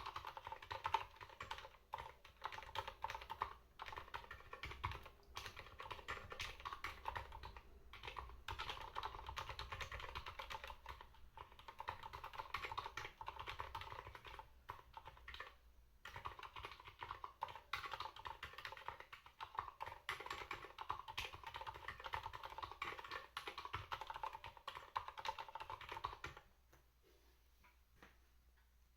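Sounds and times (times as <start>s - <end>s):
soft keyboard typing: 0.0s - 26.5s.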